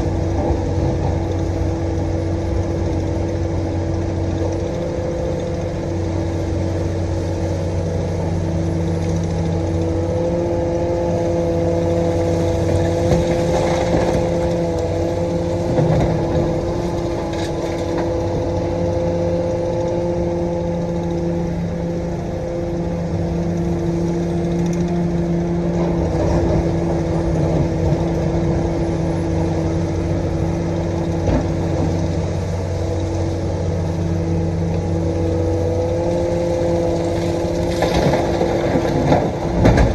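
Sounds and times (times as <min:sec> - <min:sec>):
excavator diesel engine running: 0:00.0 - 0:39.9
steady whine: 0:00.0 - 0:39.9.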